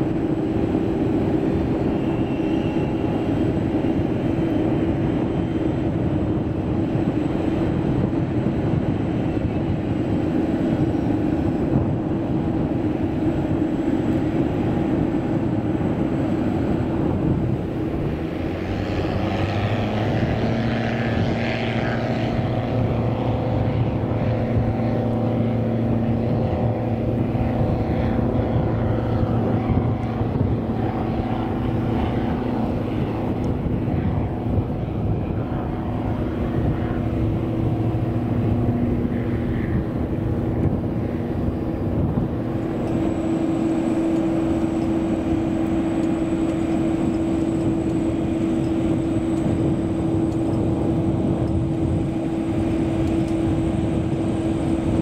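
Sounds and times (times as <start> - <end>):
aircraft engine hum and whine: 0.0 - 55.0
turboprop engines and propellers: 0.0 - 55.0.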